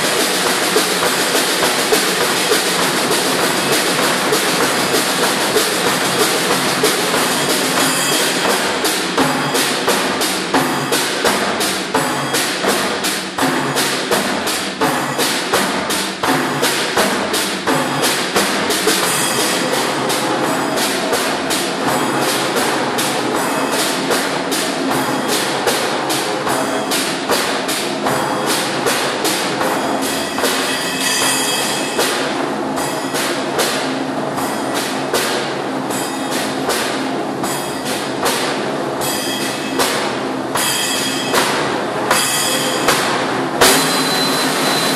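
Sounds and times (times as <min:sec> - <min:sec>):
sticks striking wood blocks and drums: 0:00.0 - 0:44.9.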